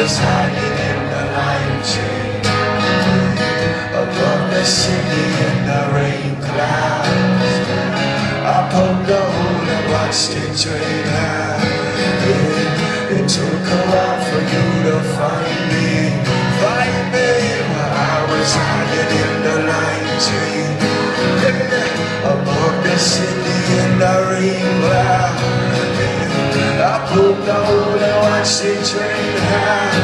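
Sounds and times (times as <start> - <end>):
acoustic guitar strumming: 0.0 - 30.0
person singing: 0.0 - 30.0.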